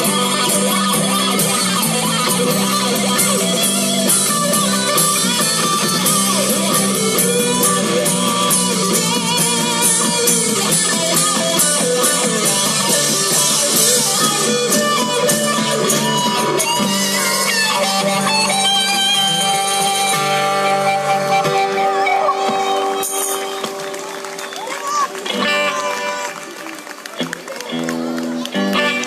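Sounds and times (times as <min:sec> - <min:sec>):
electric guitar: 0:00.0 - 0:29.0
live rock band playing: 0:00.0 - 0:29.0.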